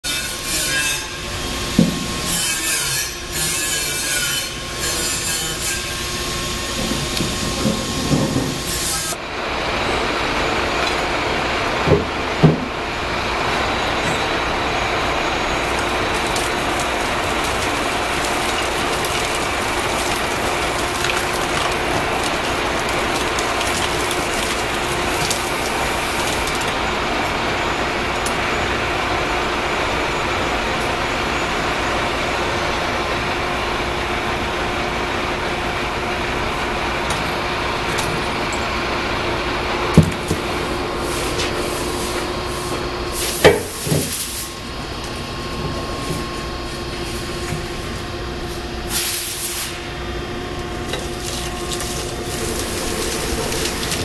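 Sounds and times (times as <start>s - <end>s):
hydraulic press running: 0.0s - 54.0s.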